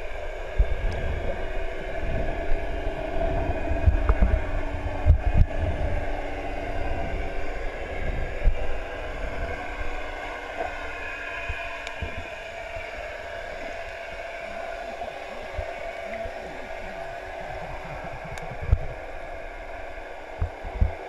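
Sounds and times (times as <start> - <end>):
hum of held tones: 0.0 - 21.0
underwater water rumble: 0.0 - 21.0.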